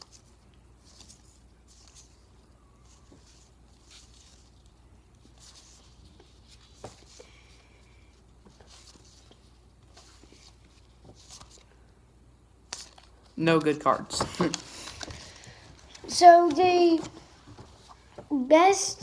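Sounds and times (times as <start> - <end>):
trading cards rustling and sliding: 0.0 - 11.7, 12.7 - 18.2.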